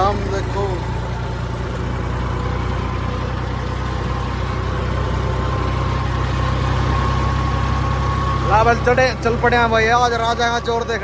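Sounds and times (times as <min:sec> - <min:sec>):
tractor diesel engine rumble: 0:00.0 - 0:11.0.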